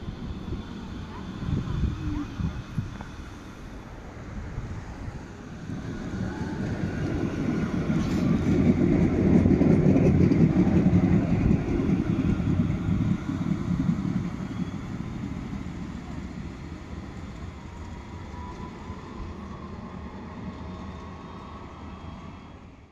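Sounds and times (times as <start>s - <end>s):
tram rumbling past: 0.0s - 22.9s.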